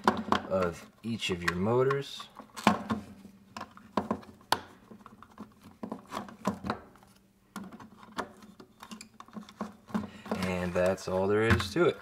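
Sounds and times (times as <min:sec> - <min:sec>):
plastic parts clicking and knocking: 0:00.0 - 0:12.0.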